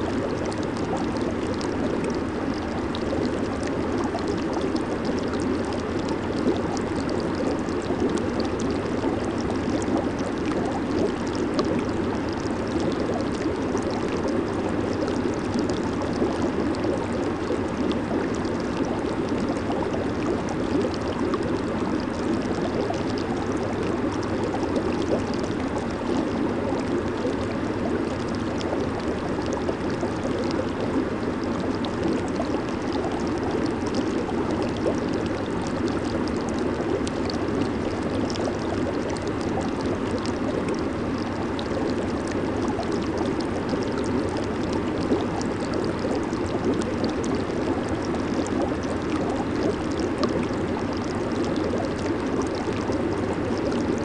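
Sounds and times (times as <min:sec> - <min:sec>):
bubbles popping: 0:00.0 - 0:54.0
hot tub jets churning water: 0:00.0 - 0:54.0.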